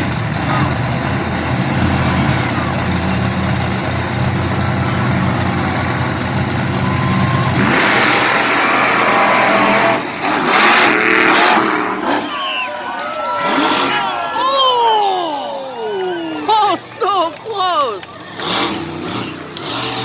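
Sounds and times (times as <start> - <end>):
monster truck engines revving: 0.0 - 20.0.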